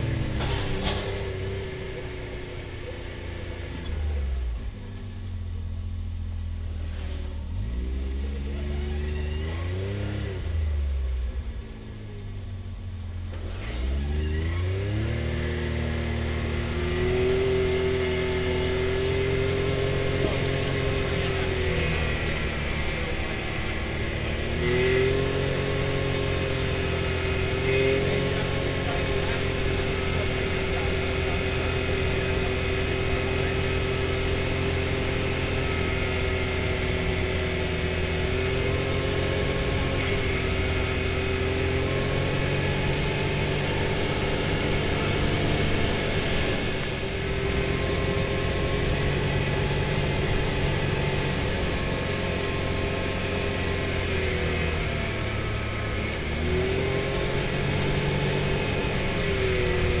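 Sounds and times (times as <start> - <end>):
vehicle engine running: 0.0 - 60.0.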